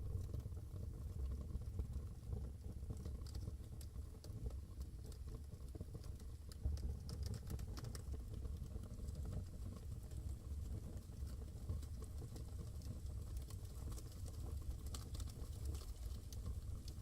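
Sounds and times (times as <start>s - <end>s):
fire crackling and popping: 0.1s - 17.0s.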